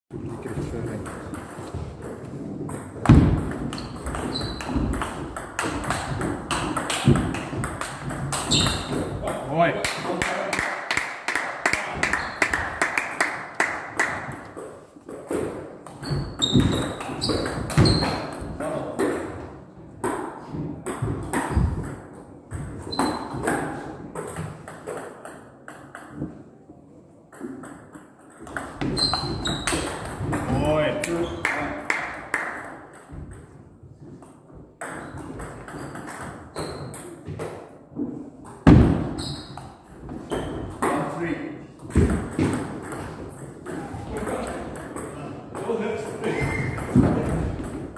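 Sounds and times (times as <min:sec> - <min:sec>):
table tennis ball bouncing: 0:00.2 - 0:10.5, 0:11.8 - 0:19.4, 0:20.0 - 0:26.4, 0:27.3 - 0:41.1, 0:41.8 - 0:47.9.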